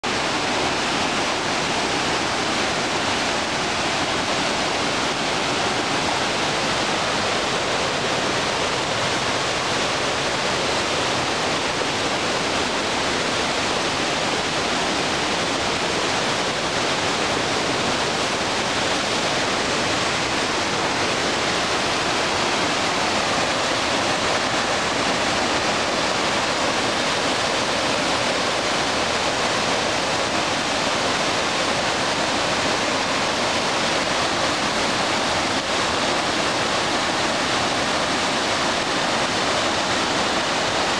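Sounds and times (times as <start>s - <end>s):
creek water rushing over rocks: 0.0s - 40.9s.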